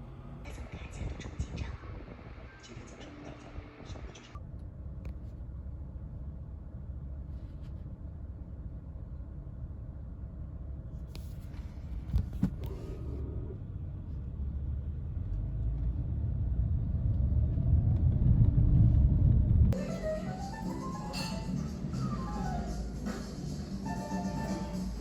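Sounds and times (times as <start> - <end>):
vehicle ride rumble: 0.0 - 25.0.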